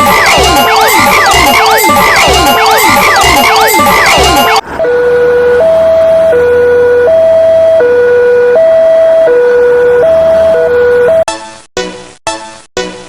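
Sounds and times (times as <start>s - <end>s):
warbling siren: 0.0s - 11.2s
two-tone hi-lo siren: 0.0s - 11.3s.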